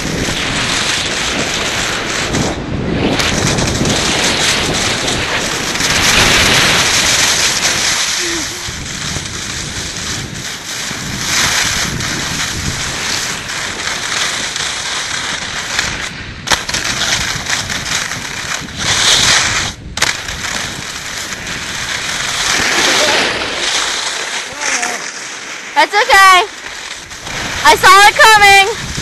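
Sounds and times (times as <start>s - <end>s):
snowboard edge scraping snow: 0.0s - 29.0s
wind rushing over microphone: 0.0s - 29.0s.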